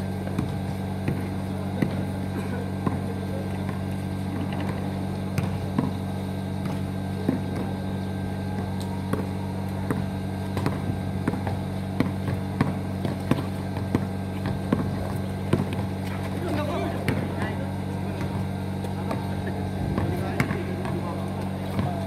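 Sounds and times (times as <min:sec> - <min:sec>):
basketball bouncing on asphalt: 0:00.0 - 0:22.0
low mechanical hum: 0:00.0 - 0:22.0.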